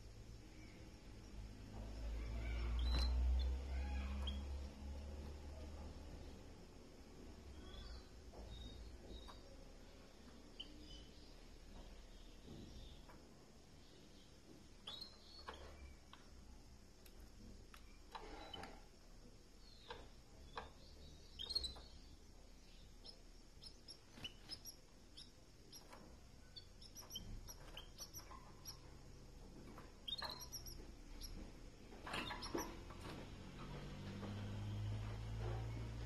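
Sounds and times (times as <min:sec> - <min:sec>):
canaries chirping: 0:01.6 - 0:06.6, 0:07.4 - 0:13.2, 0:13.8 - 0:16.3, 0:17.7 - 0:19.0, 0:19.6 - 0:36.0.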